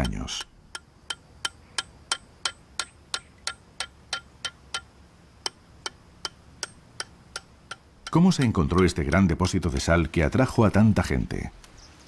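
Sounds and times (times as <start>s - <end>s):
light metallic ringing taps: 0.0s - 9.7s.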